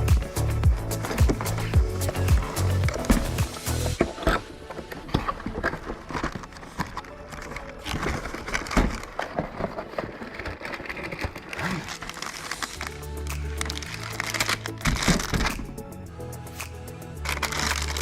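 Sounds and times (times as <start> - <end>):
crinkling: 0.0 - 18.0
hands handling parts: 0.0 - 18.0.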